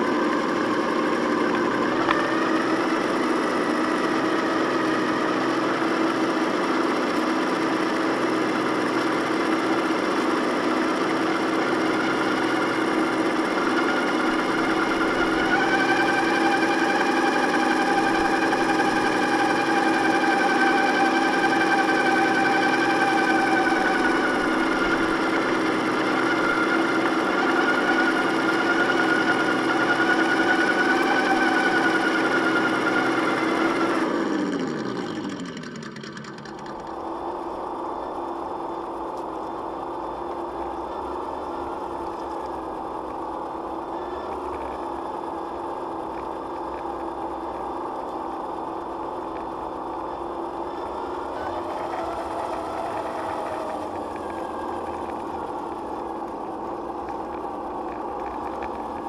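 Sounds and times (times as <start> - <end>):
toy car motor whine: 0.0 - 59.0.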